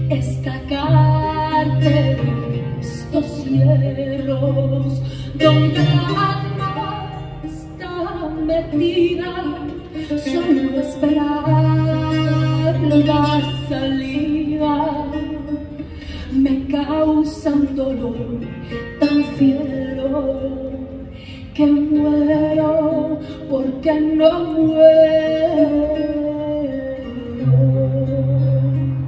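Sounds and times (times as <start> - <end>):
guitar: 0.0 - 29.0
woman singing slow melody: 0.0 - 29.0.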